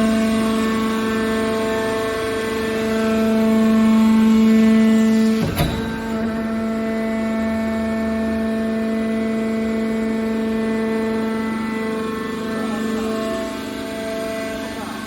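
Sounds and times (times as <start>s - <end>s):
hydraulic baler humming: 0.6s - 15.0s.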